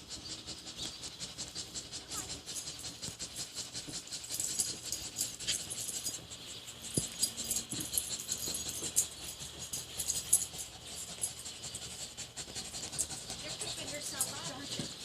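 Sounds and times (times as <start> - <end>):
dog rapid clicking and rattling: 0.0 - 15.0.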